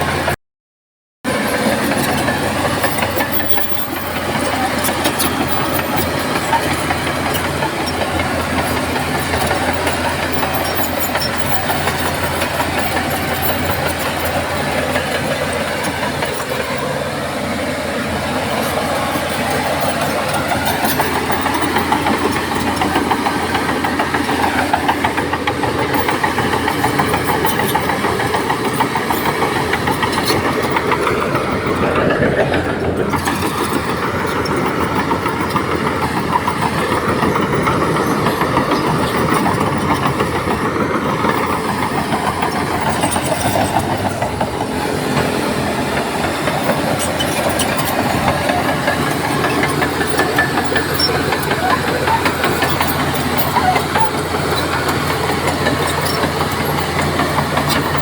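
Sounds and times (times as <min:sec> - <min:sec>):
bulldozer diesel engine under load: 0:00.0 - 0:00.4, 0:01.2 - 0:58.0
rapid machine clatter: 0:01.3 - 0:58.0.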